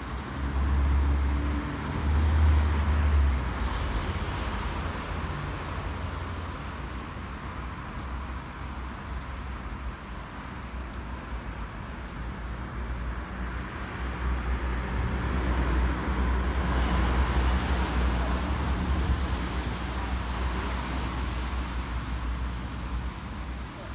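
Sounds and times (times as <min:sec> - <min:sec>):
steady low traffic rumble: 0:00.0 - 0:23.9.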